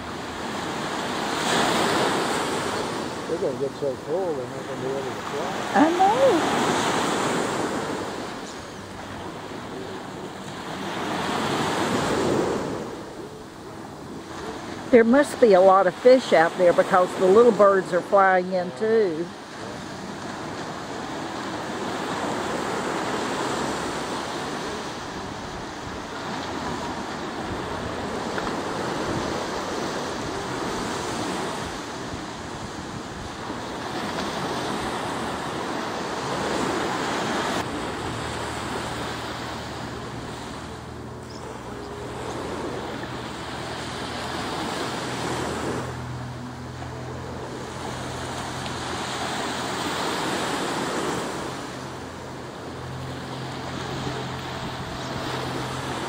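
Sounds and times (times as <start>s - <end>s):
surf breaking on beach: 0.0s - 56.0s.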